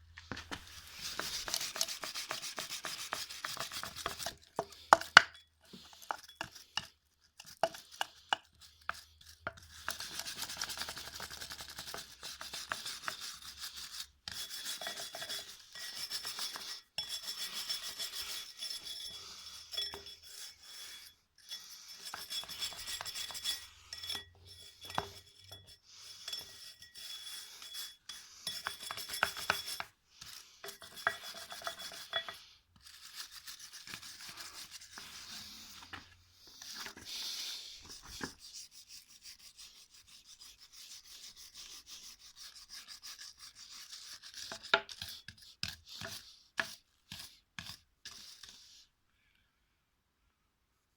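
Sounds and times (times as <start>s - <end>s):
scraping and rubbing on metal parts: 0.2s - 48.9s.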